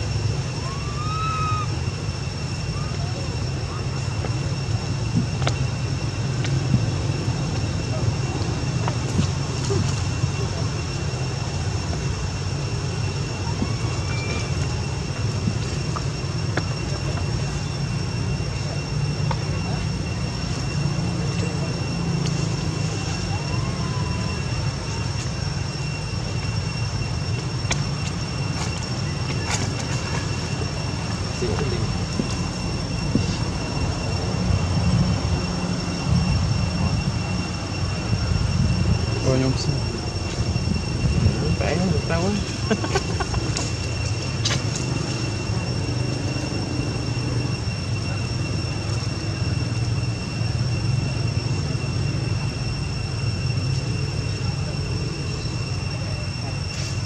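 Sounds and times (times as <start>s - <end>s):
continuous low rumble: 0.0s - 57.0s
thin high-pitched whine: 0.0s - 57.0s.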